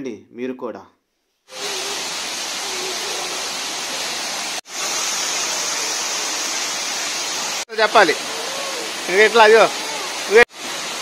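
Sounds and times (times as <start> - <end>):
water rushing: 1.5 - 11.0.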